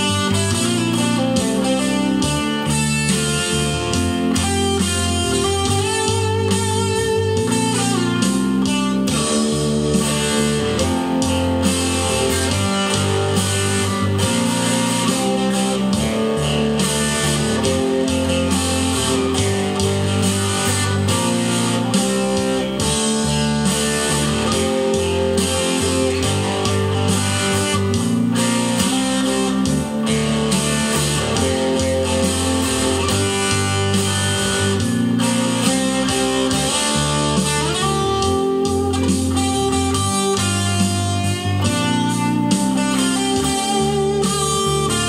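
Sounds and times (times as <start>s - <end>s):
backing track: 0.0s - 45.0s
bass notes: 0.0s - 45.0s
electric guitar solo: 0.0s - 45.0s.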